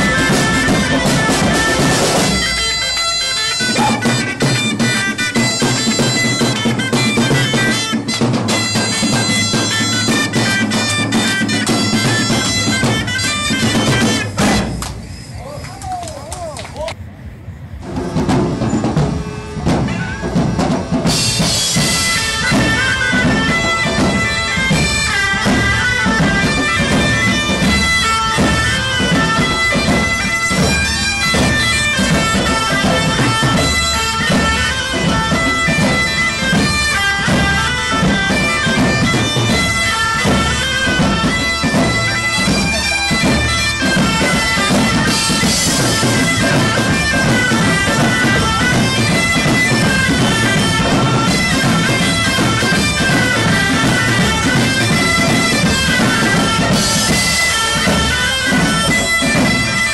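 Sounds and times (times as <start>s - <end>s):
regular drumbeat: 0.0s - 15.2s, 17.6s - 59.9s
high piping melody: 0.0s - 15.8s, 18.0s - 59.9s.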